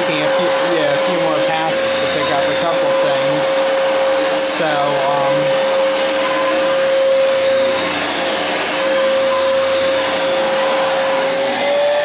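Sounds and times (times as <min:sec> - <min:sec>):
vacuum cleaner motor whine: 0:00.0 - 0:12.0.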